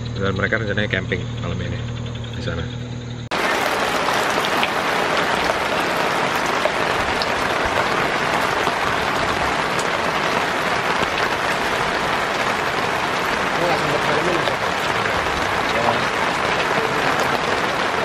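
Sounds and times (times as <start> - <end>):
steady rain falling: 3.3 - 18.0.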